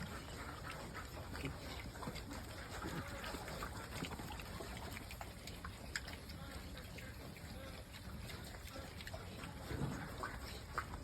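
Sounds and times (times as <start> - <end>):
pigs grunting: 0.0 - 11.0
pigs slurping wet feed: 0.0 - 11.0.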